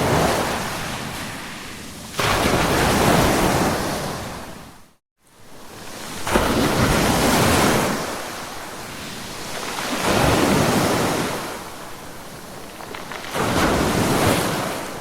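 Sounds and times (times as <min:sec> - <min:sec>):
ocean waves breaking: 0:00.0 - 0:04.8, 0:05.7 - 0:15.0.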